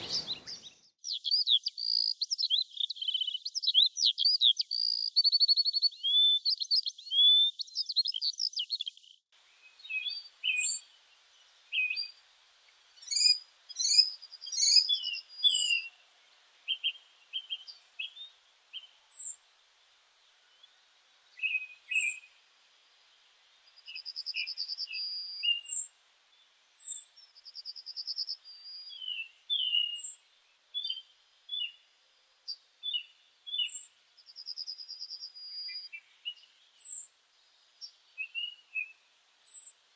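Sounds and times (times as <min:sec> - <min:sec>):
bird chirps and trills: 0:00.0 - 0:05.1, 0:05.9 - 0:31.8, 0:32.5 - 0:37.1, 0:37.8 - 0:39.8
songbirds warbling song: 0:00.0 - 0:39.9.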